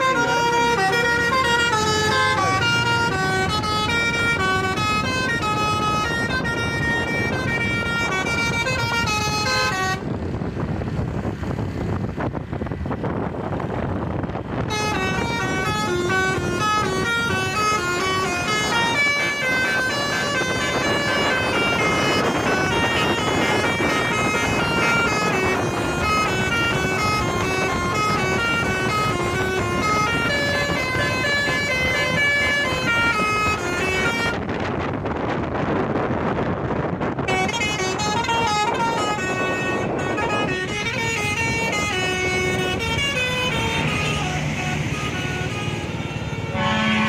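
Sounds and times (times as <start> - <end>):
bus horns playing a tune: 0.0 - 11.3, 13.5 - 47.0
vehicle noise: 0.0 - 47.0.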